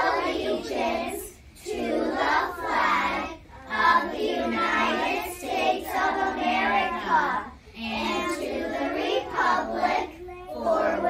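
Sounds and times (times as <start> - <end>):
children reciting in unison: 0.0 - 11.0.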